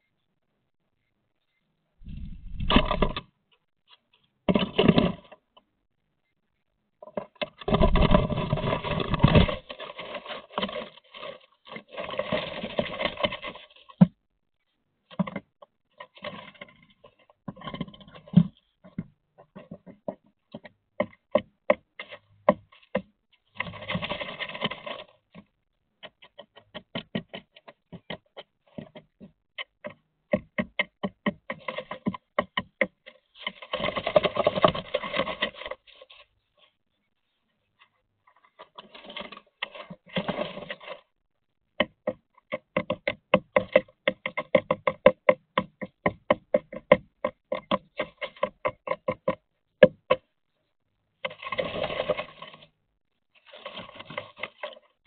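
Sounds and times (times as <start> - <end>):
bird rustling in nest box: 2.0 - 5.6, 7.0 - 14.2, 15.0 - 50.6, 51.2 - 55.0
claws and beak tapping wood: 2.4 - 5.7, 7.0 - 14.2, 15.1 - 36.8, 37.6 - 50.6, 51.2 - 52.8, 53.4 - 55.0.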